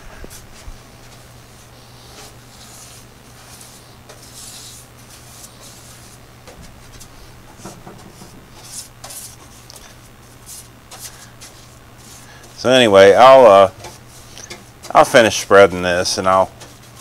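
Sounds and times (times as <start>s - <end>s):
low hum: 0.0s - 17.0s
paintbrush swishing on metal: 0.3s - 17.0s.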